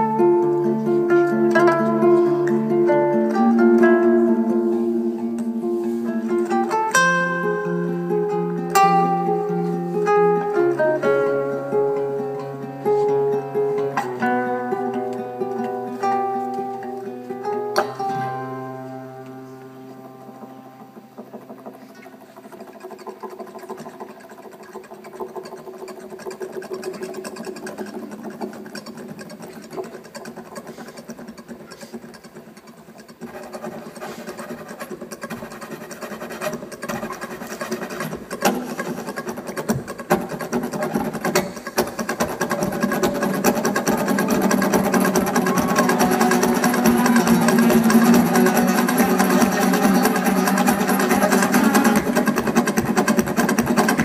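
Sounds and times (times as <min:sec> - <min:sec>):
acoustic guitars strumming: 0:00.0 - 0:54.0.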